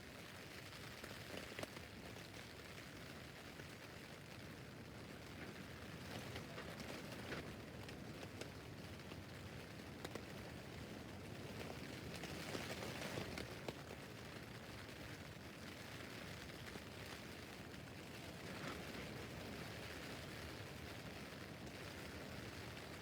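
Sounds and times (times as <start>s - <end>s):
rain on a tent roof: 0.0s - 23.0s.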